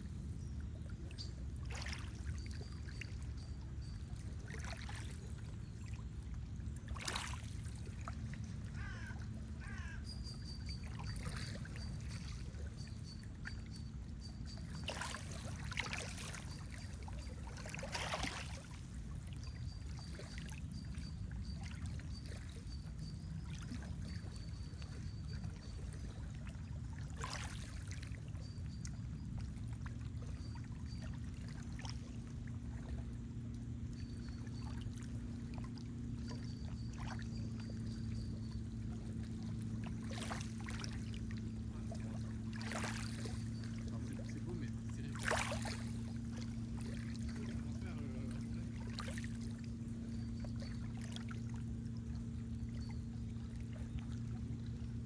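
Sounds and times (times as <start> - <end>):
lake water lapping: 0.0 - 55.0
water splashes: 0.9 - 55.0.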